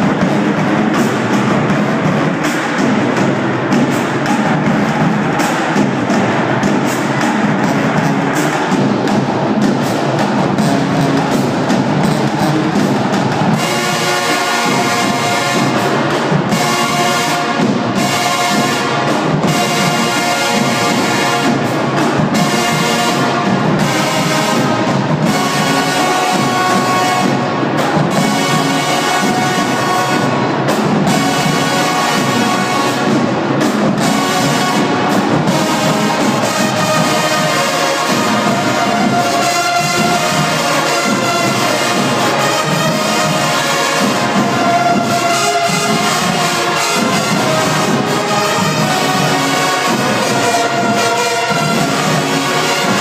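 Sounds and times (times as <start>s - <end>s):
brass section playing: 0.0s - 53.0s
marching drumline: 0.0s - 53.0s.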